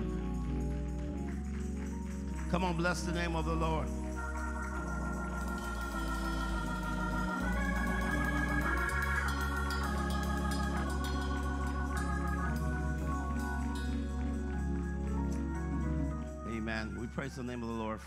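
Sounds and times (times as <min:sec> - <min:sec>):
steady low bass: 0:00.0 - 0:17.8
organ playing sustained chords: 0:00.0 - 0:18.0.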